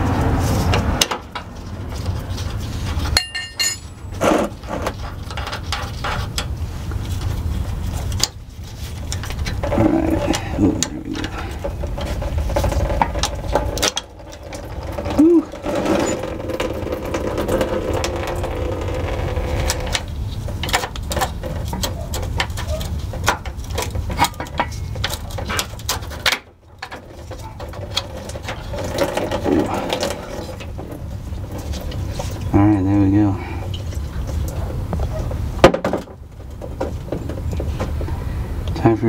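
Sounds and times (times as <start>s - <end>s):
hand tools clicking and scraping metal: 0.2s - 32.5s.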